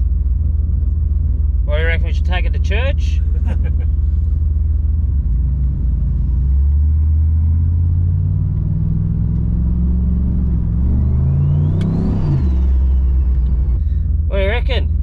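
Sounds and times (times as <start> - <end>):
car engine drone: 0.0 - 15.0.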